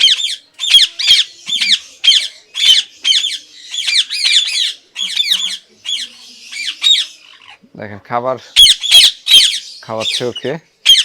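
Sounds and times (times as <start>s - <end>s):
parakeet chick begging squawks: 0.0s - 7.6s, 8.6s - 11.0s.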